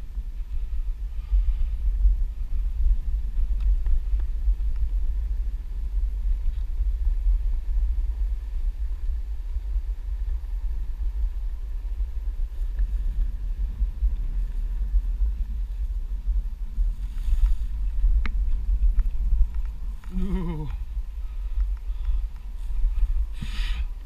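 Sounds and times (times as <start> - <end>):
wind buffeting microphone: 0.0 - 24.0
electric board rolling on dirt: 2.6 - 24.0.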